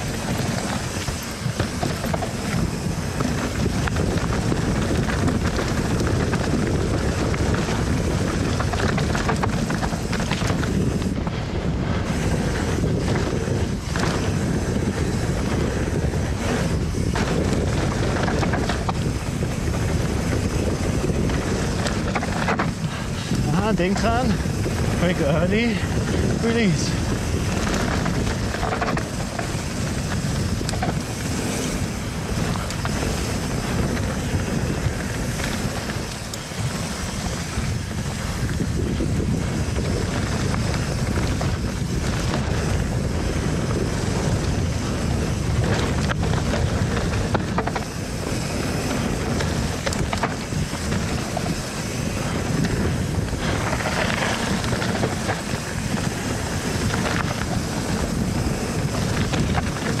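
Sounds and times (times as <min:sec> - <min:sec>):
bike knocks and rattles: 0:00.0 - 1:00.0
mountain bike rushing down trail: 0:00.0 - 1:00.0
wind buffeting microphone: 0:00.0 - 1:00.0.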